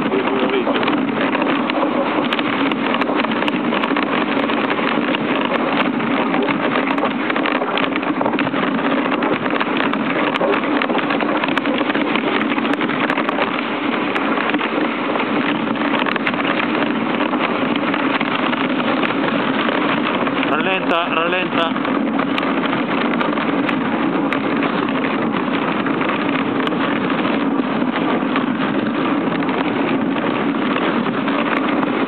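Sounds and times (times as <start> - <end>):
sled runners rushing on snow: 0.0 - 32.0.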